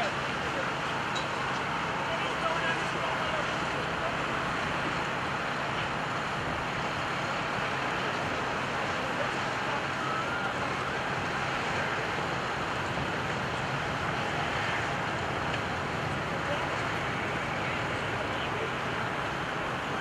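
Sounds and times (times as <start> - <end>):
distant jet engines roaring: 0.0 - 20.0.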